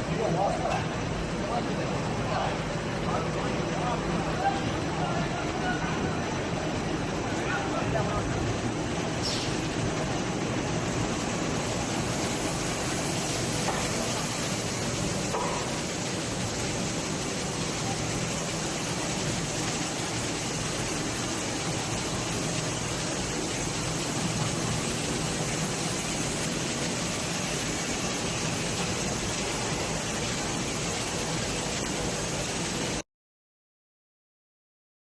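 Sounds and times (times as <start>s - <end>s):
perforation machine running: 0.0s - 33.0s.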